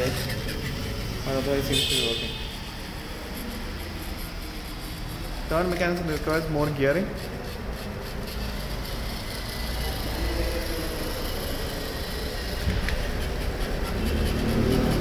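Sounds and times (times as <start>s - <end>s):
toy car motors whirring: 0.0s - 15.0s.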